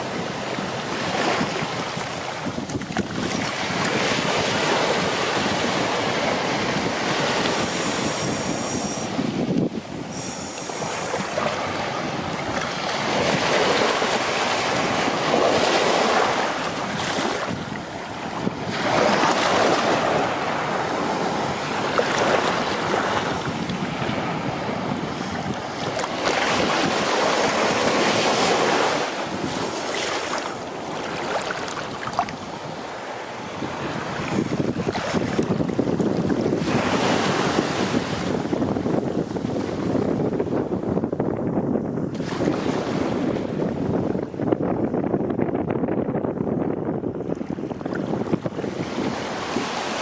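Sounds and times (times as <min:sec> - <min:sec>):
ocean waves breaking: 0:00.0 - 0:40.2, 0:47.4 - 0:50.0
wind buffeting microphone: 0:00.0 - 0:50.0.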